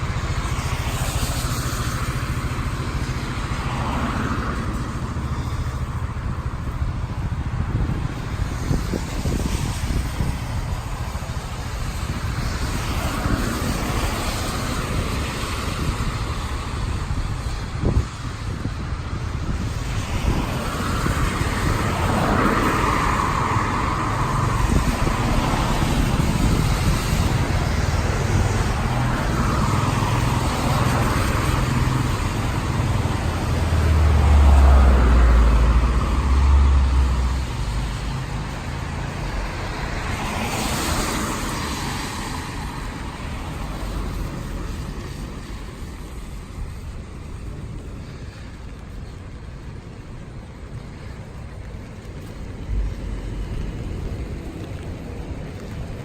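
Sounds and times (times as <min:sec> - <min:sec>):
cars passing on a wet street: 0:00.0 - 0:56.0.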